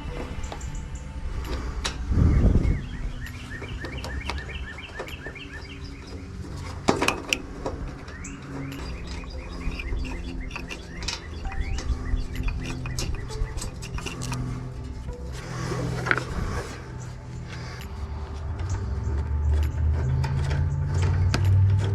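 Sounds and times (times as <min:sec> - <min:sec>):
sharp metal clicks: 0:00.0 - 0:21.9
small birds chirping: 0:00.0 - 0:21.9.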